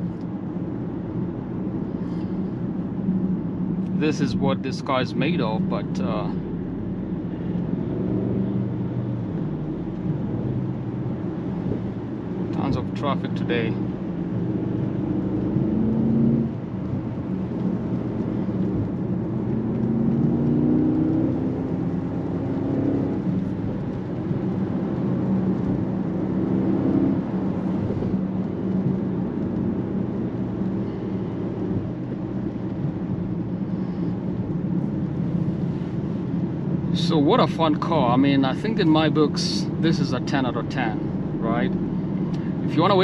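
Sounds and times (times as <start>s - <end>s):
car engine accelerating hard: 3.8s - 43.0s.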